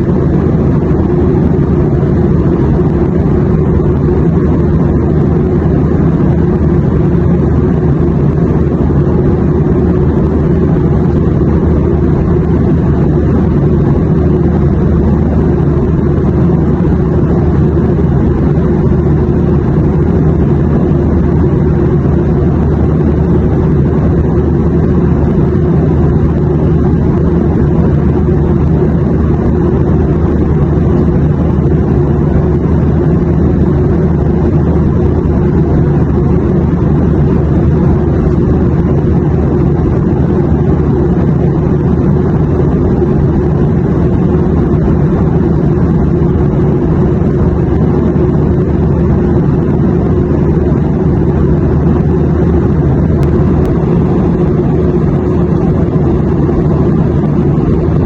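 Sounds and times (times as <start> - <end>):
airplane rumble: 0.0 - 58.0.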